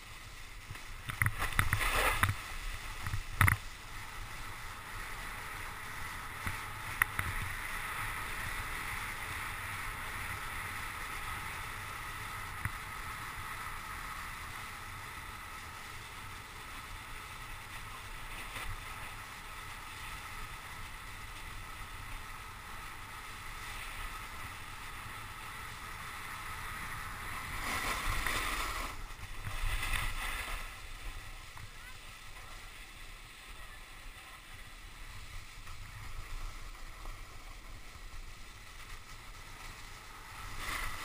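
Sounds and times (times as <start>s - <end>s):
snowboard sliding through slush: 0.0s - 41.0s.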